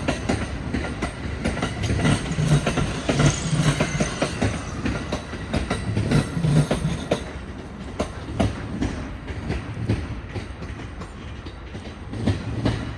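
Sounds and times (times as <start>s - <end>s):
steady train rumble: 0.0s - 12.9s
train wheels clacking on rail joints: 0.0s - 12.9s.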